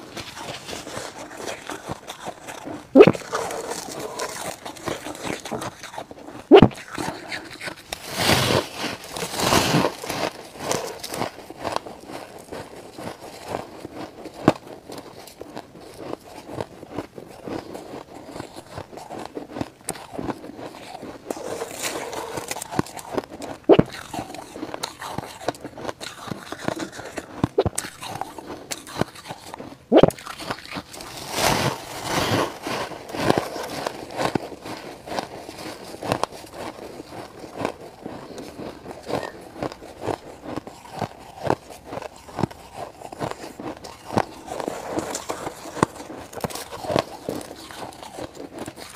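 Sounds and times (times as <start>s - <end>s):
chewing and crunching ice: 0.0s - 48.9s.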